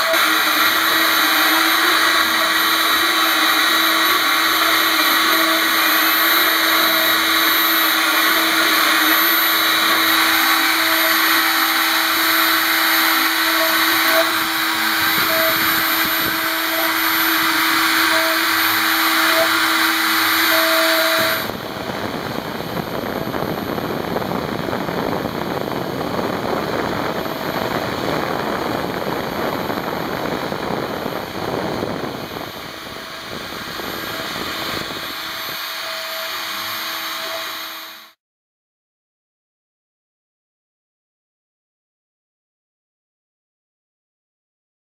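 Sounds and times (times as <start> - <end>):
milling machine high whine: 0.0 - 38.2.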